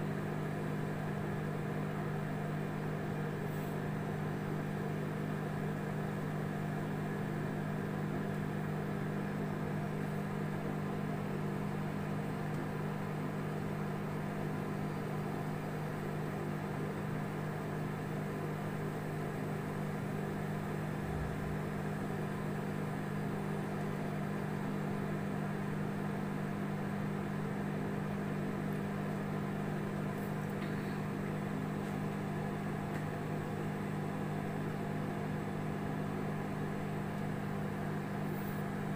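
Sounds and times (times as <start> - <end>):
microwave oven humming: 0.0 - 38.9.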